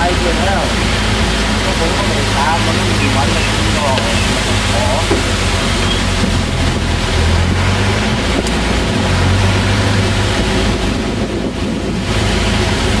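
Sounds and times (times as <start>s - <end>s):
vehicle engine running: 0.0s - 13.0s
wind and tyre rushing noise: 0.0s - 13.0s.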